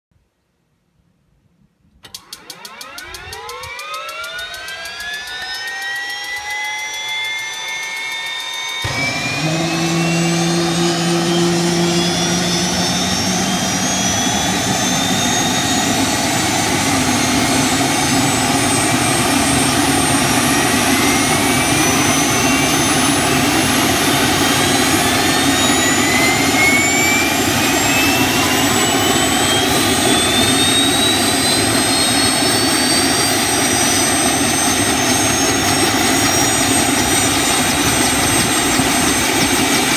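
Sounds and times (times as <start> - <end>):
engine rushing noise: 2.0 - 39.9
turbine and rotor whining tones: 2.0 - 39.9
turbine starter whine: 2.0 - 39.9.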